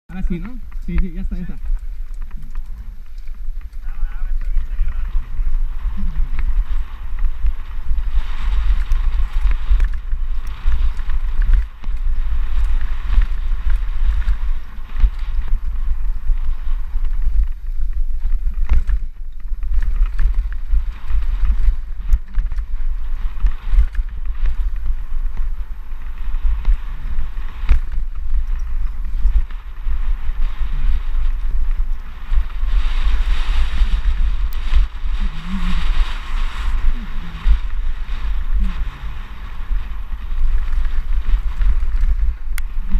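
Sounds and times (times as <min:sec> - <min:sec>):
bike rattling over bumps: 0:00.1 - 0:42.9
tyres rolling on gravel trail: 0:00.1 - 0:42.9
wind buffeting microphone: 0:00.1 - 0:42.9.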